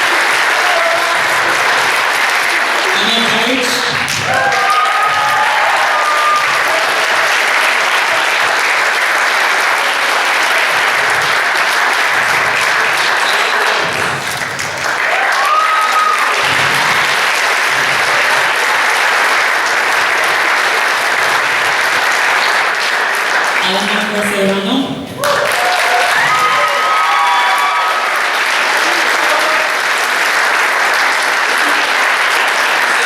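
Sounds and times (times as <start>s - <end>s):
audience applauding: 0.0s - 33.0s
people cheering: 0.0s - 33.0s.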